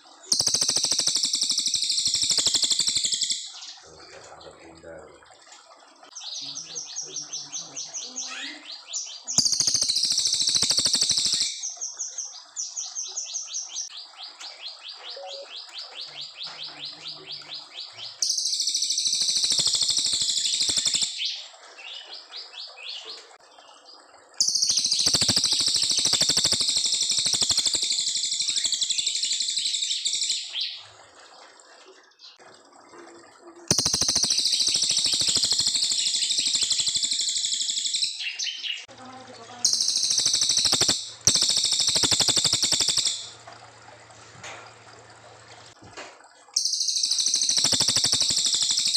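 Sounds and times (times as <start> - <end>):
songbird singing: 0.0 - 31.0, 31.8 - 48.9
rapid high bird twittering: 0.2 - 5.0, 6.1 - 23.2, 24.4 - 30.9, 33.7 - 43.4, 46.6 - 48.9.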